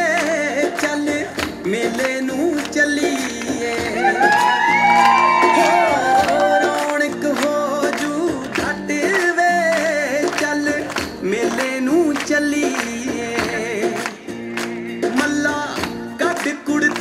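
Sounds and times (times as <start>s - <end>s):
folk dance song over loudspeakers: 0.0s - 17.0s.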